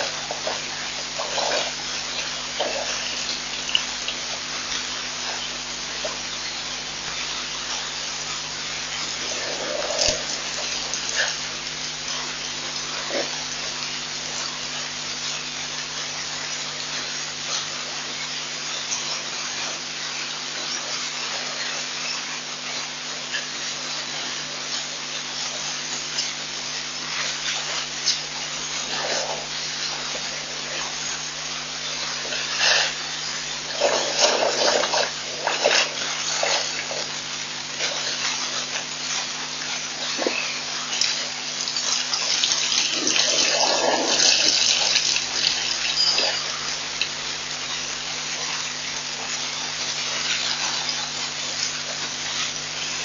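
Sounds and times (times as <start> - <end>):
faint electrical hum: 0.0 - 53.0
steady hiss: 0.0 - 53.0.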